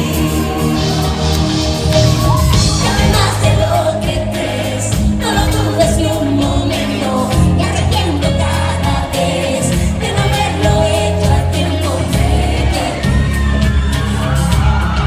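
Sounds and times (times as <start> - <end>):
crowd singing along: 0.0 - 15.0
lead vocal singing: 0.0 - 15.0
live pop band playing: 0.0 - 15.0.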